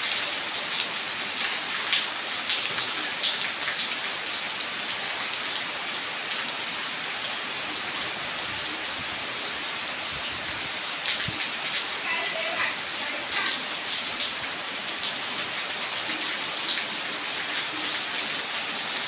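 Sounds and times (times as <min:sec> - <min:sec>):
rain on stone steps: 0:00.0 - 0:19.0.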